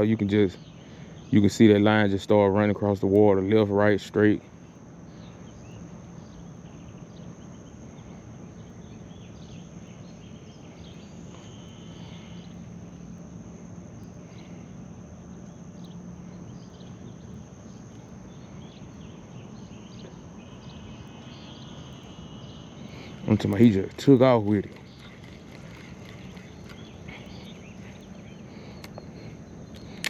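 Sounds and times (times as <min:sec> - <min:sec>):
faint low hum: 0:00.0 - 0:30.0
high-pitched insect drone: 0:00.0 - 0:30.0
bird chirps: 0:04.6 - 0:13.2, 0:14.0 - 0:30.0.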